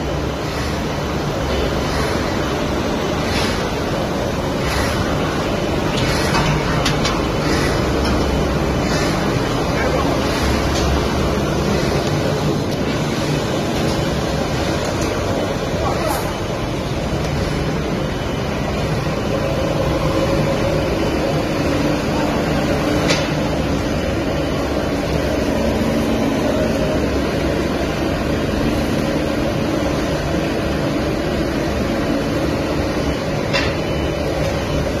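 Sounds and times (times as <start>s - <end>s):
machinery hum with low drone: 0.0s - 35.0s.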